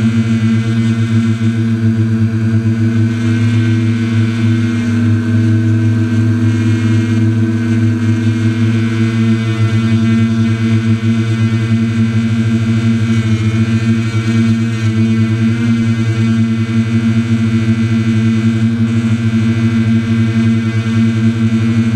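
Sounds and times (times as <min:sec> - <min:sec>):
drone propellers whirring: 0:00.0 - 0:21.9.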